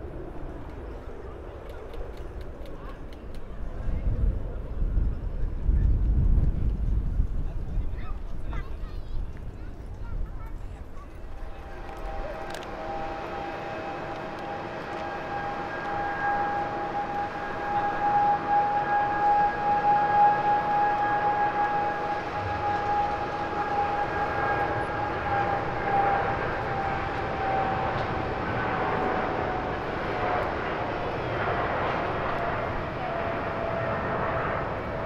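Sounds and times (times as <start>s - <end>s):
jet engines whining and rumbling: 0.0s - 35.0s.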